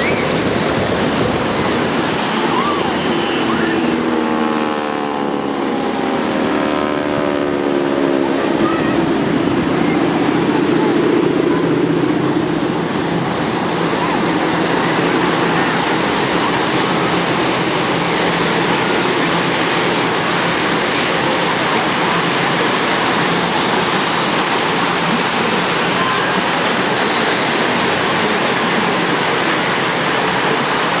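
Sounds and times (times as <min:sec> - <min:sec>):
low engine drone: 0:00.0 - 0:31.0
steady rushing noise: 0:00.0 - 0:31.0.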